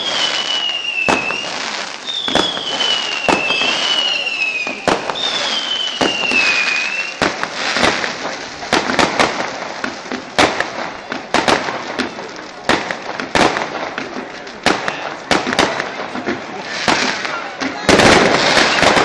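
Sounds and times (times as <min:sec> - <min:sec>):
whistling firework: 0:00.0 - 0:19.0.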